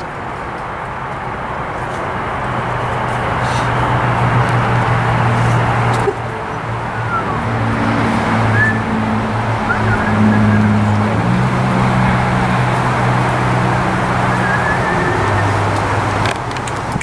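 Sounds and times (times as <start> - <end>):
car engine hum: 0.0 - 17.0
road noise: 0.0 - 17.0.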